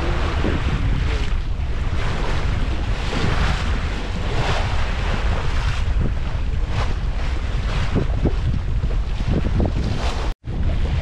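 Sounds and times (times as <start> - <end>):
water rushing along a hull: 0.0 - 11.0
wind buffeting microphone: 0.0 - 11.0.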